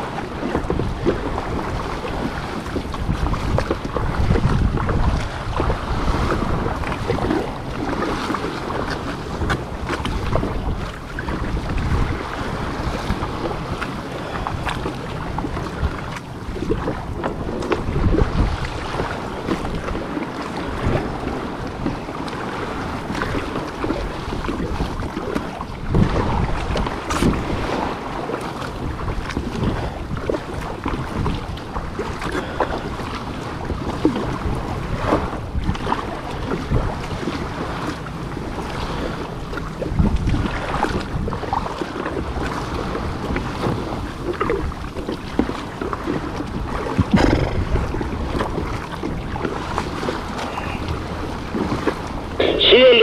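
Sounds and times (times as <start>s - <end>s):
water sloshing and splashing: 0.0s - 53.0s
wind buffeting microphone: 0.0s - 53.0s.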